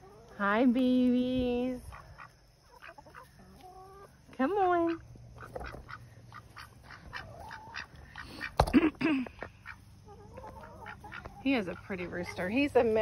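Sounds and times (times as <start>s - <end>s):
ducks quacking: 1.8s - 13.0s.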